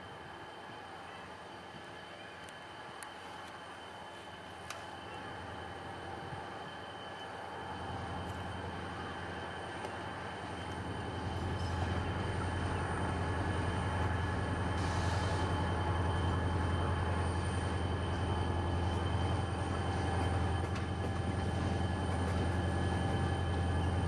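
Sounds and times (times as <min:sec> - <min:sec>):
diesel locomotive engine hum: 0:00.0 - 0:24.0.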